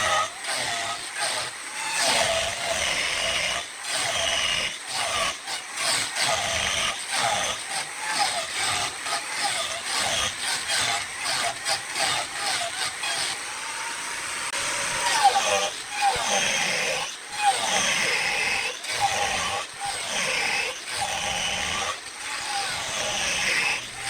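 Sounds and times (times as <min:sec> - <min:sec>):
tool scraping wood: 0:00.0 - 0:24.0.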